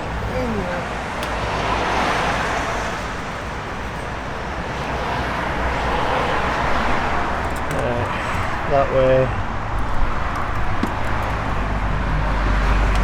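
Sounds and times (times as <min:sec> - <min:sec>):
rumble of passing vehicles: 0:00.0 - 0:13.0.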